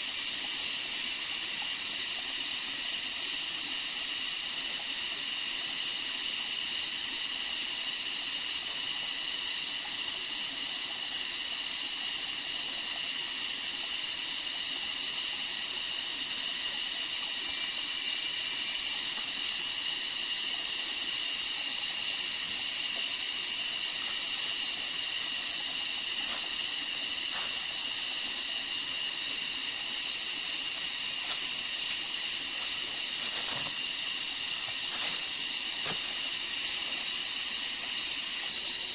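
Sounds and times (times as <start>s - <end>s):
insect chorus drone: 0.0s - 38.9s.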